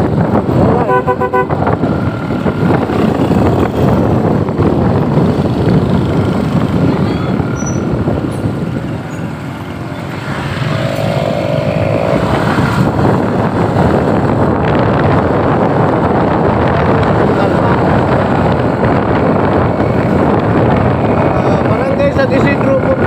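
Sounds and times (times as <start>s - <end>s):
road noise: 0.0s - 23.0s
vehicle engine: 0.0s - 23.0s.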